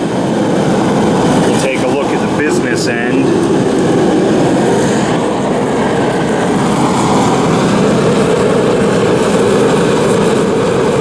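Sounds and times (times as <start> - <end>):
heater fan and burner rushing: 0.0 - 11.0
low hum: 0.0 - 11.0.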